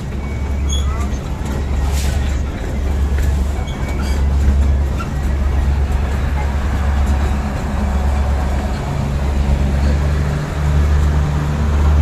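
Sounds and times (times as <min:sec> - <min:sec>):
diesel train rumbling: 0:00.0 - 0:12.0.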